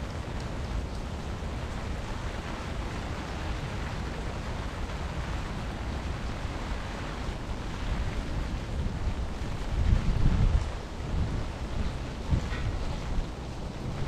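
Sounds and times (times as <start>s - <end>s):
rain hissing: 0.0s - 14.0s
wind buffeting microphone: 0.0s - 14.0s.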